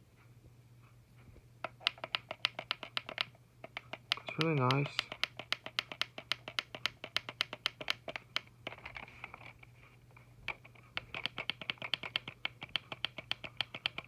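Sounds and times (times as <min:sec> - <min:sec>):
faint steady hum: 0:00.0 - 0:14.0
rapid clicking from speaker: 0:01.6 - 0:09.6, 0:10.4 - 0:14.0.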